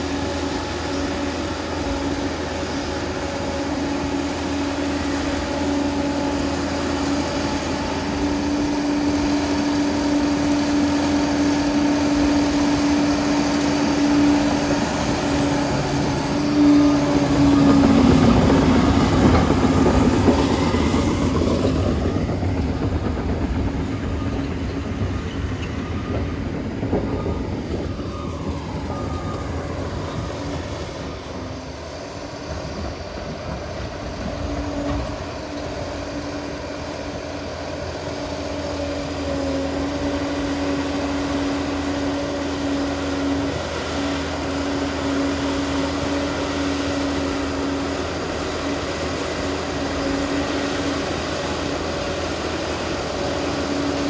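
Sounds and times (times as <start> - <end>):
steady whine: 0.0 - 45.0
crawler dozer rumbling: 0.0 - 54.0.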